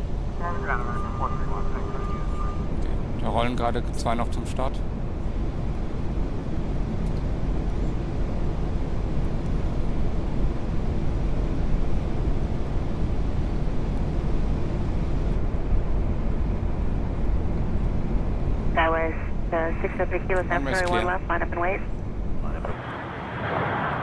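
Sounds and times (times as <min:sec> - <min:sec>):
airflow and engine noise: 0:00.0 - 0:24.0.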